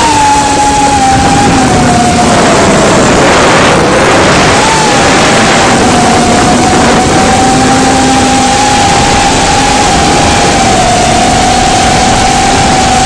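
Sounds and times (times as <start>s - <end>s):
drone motors whining: 0.0s - 13.0s
rushing wind noise: 0.0s - 13.0s.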